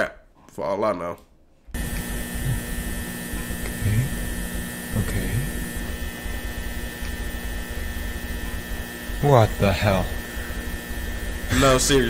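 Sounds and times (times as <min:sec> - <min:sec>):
fluorescent lights humming: 0:00.2 - 0:12.0.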